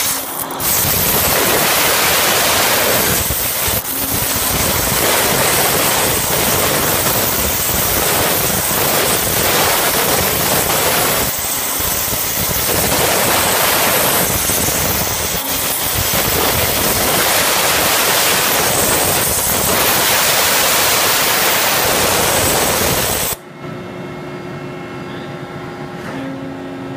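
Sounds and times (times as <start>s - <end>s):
waterjet cutter hissing: 0.0s - 23.4s
steady hum: 0.0s - 26.0s.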